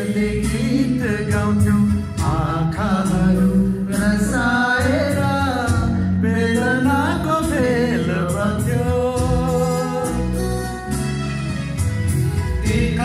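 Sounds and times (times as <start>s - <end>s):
man singing into a microphone: 0.0s - 10.8s, 12.6s - 13.0s
instrumental accompaniment: 0.0s - 13.0s.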